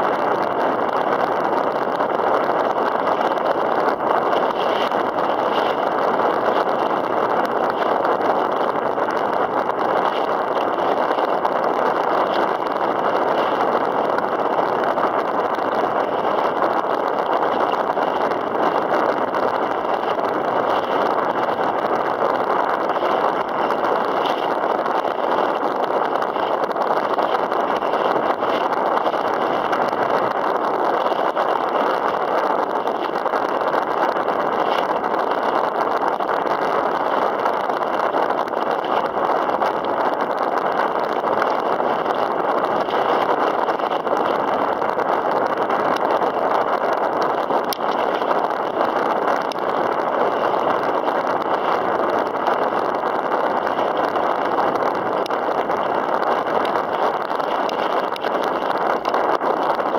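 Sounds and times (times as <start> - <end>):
wind buffeting microphone: 0.0 - 59.9
water splashing against kayak: 0.1 - 59.9.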